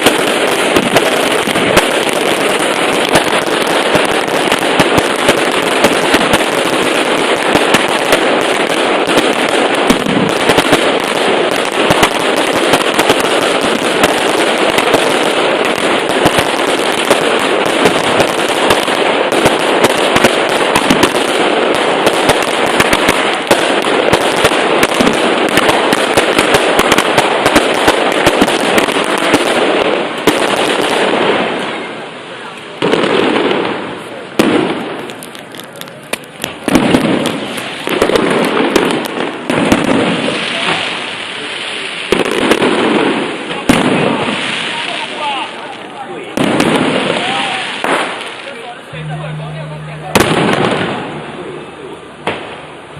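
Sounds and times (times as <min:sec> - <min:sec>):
firecrackers cracking rapidly: 0:00.0 - 0:52.9.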